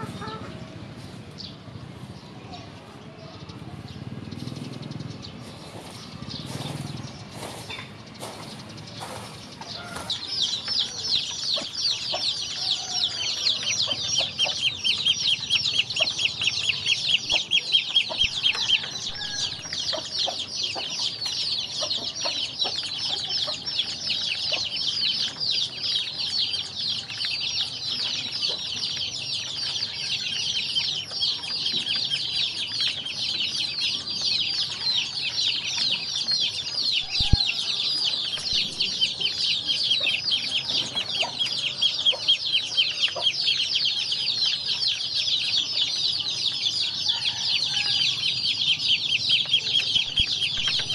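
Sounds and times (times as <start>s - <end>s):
ducklings peeping: 0.0s - 2.7s, 3.3s - 50.9s.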